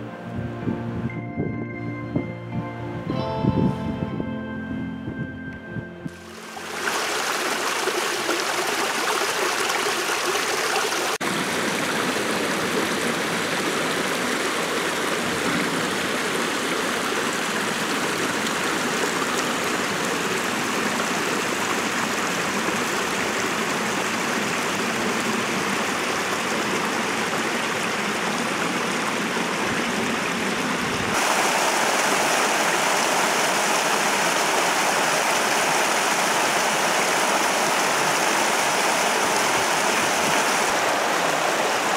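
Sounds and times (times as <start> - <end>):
small waterfall: 6.2 - 41.9
stream splashing over rocks: 6.2 - 41.9.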